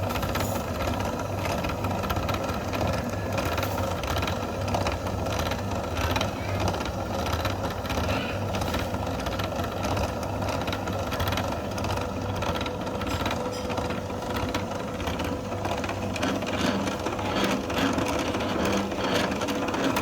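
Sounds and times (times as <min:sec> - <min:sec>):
small machine clattering: 0:00.0 - 0:20.0.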